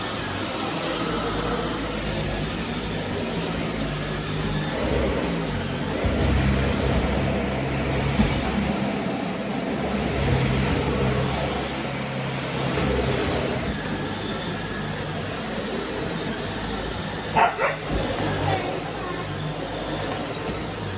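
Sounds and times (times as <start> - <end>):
vacuum cleaner running: 0.0 - 20.9.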